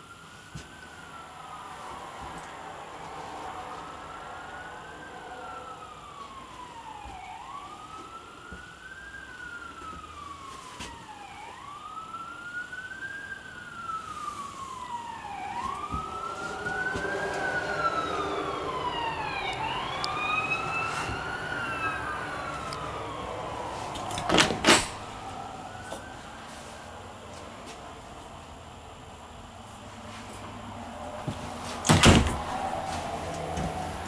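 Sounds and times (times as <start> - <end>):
emergency siren wailing: 0.0 - 34.0.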